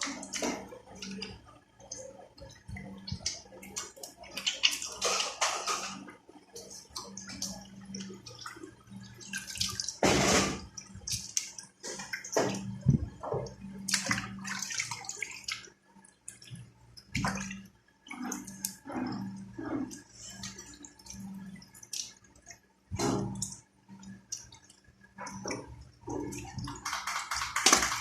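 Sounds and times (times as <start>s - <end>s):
steady low hum: 0.0s - 28.0s
water splashing and dripping: 0.0s - 28.0s.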